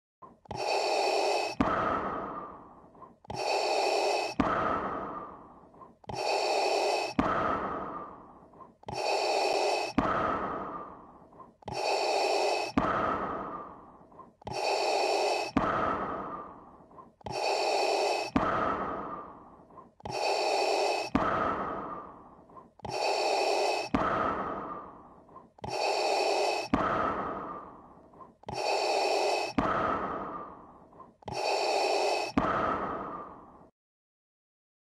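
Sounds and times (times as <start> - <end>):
mechanical respirator breathing: 0.2 - 33.7.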